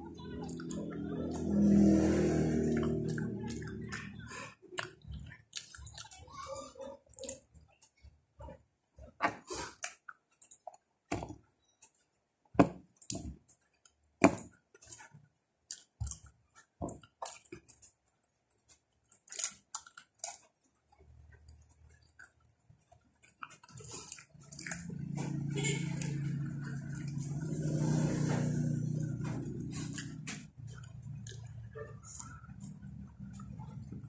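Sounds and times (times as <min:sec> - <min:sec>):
chewing and wet mouth smacking: 0:00.2 - 0:08.6, 0:09.6 - 0:10.9, 0:15.6 - 0:34.0.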